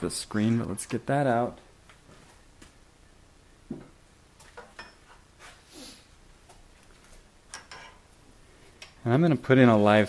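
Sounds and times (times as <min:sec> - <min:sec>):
soft hiss: 0:00.0 - 0:10.0.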